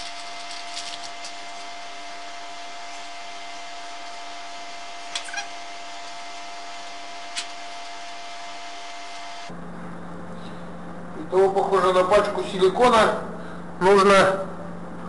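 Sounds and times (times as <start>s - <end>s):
machine hum with fixed tones: 0.0s - 15.0s.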